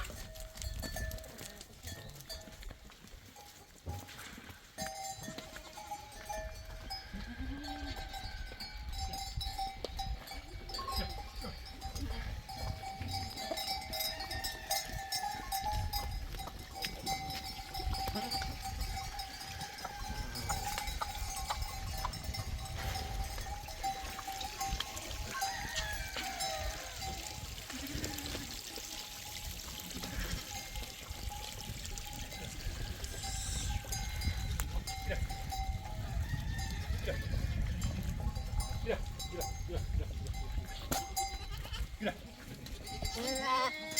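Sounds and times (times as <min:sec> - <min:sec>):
livestock bells ringing: 0:00.1 - 0:04.2, 0:04.8 - 0:41.9, 0:42.7 - 0:43.9.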